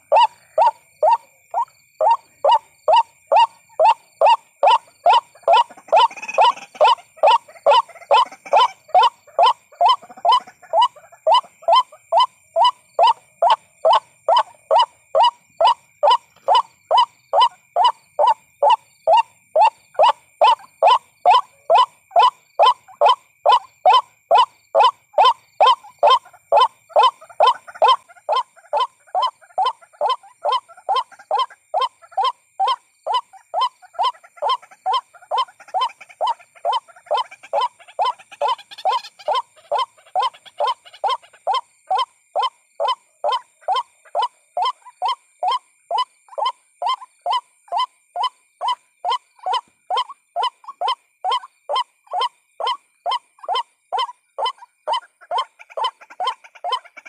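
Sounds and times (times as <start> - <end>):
waterhen calls: 0.0 - 57.0.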